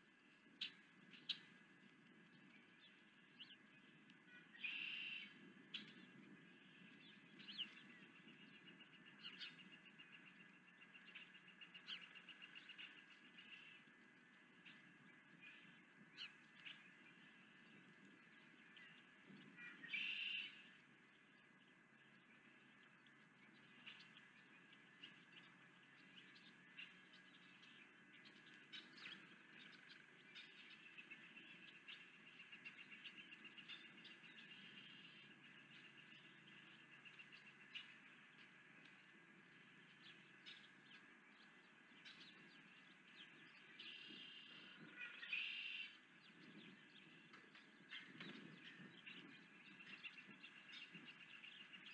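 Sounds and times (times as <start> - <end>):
low background noise: 0.0 - 51.9
faint bird chirps: 2.4 - 51.9.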